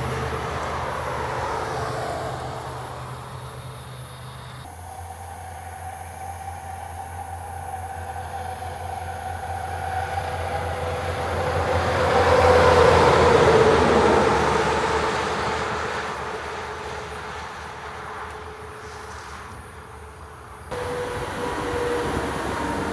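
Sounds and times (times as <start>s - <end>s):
truck passing: 0.0s - 22.9s.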